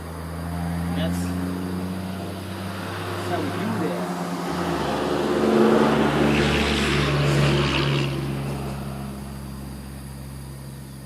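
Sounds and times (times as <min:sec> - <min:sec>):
vehicle driving past: 0:00.0 - 0:10.7.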